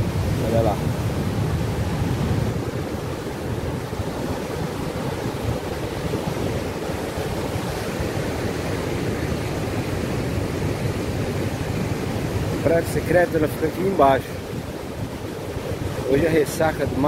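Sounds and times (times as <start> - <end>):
heavy surf breaking over rocks: 0.0 - 17.0
wind buffeting microphone: 0.0 - 17.0.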